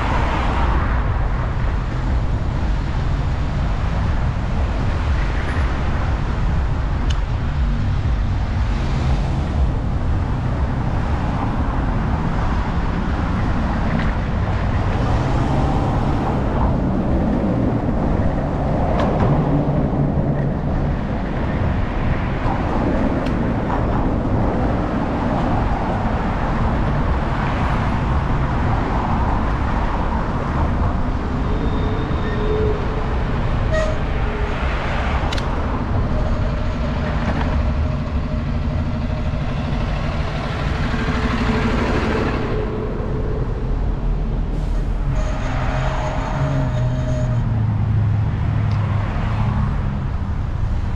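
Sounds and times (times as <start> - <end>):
slow traffic engine and tyre noise: 0.0 - 50.9.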